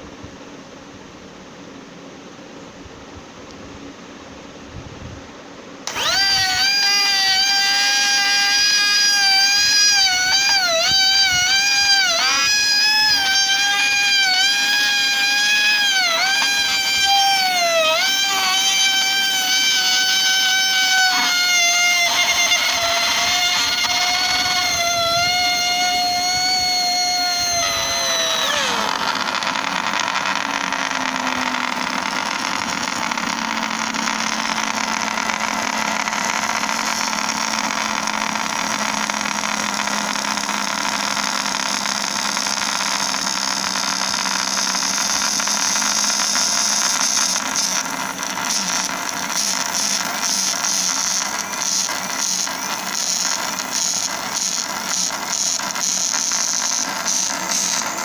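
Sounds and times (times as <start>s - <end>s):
motor brushes arcing: 5.8s - 58.0s
small motor whining: 5.8s - 58.0s
steady hiss: 6.8s - 58.0s.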